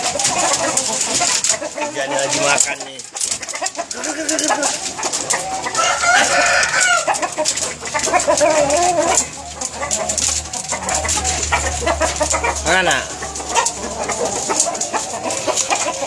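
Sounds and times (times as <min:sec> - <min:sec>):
roosters clucking and calling: 0:00.0 - 0:16.0.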